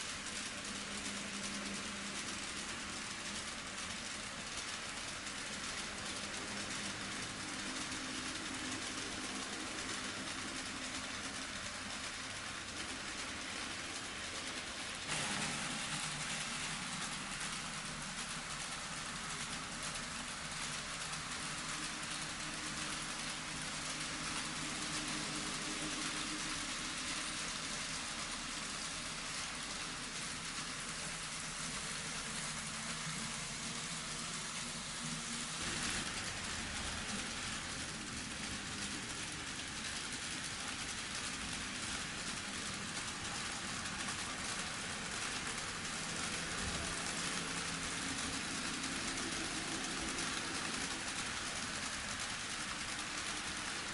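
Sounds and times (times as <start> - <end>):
model train wheels rattling on rails: 0.0 - 53.9
motor hum: 0.0 - 53.9.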